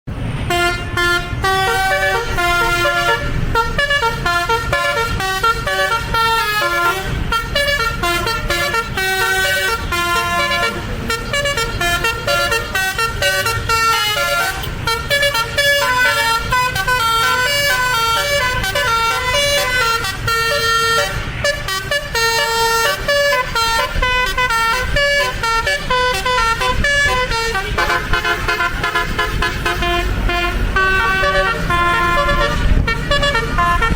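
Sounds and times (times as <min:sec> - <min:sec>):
multi-trumpet air horn tune: 0:00.4 - 0:33.9.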